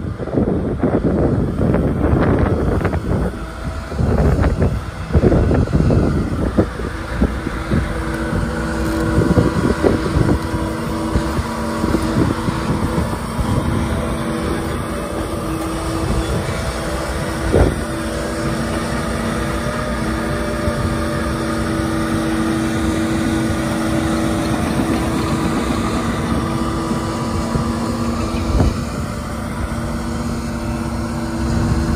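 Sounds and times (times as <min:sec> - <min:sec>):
excavator diesel engine running: 0:00.0 - 0:31.9
steady tonal hum: 0:00.0 - 0:31.9
wind buffeting microphone: 0:00.0 - 0:31.9.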